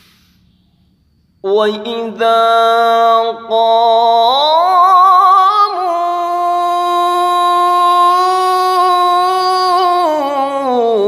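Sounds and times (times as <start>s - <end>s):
person reciting melodically: 1.4s - 11.0s.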